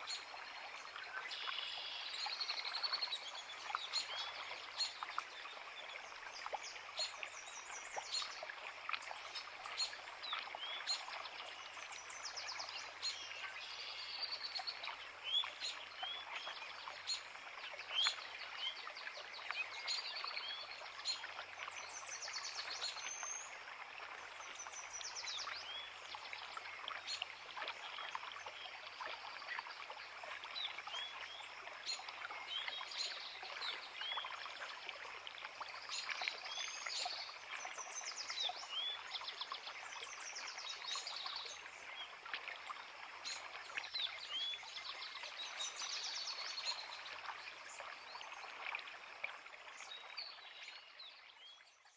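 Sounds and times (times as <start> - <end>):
creek running: 0.0 - 51.9.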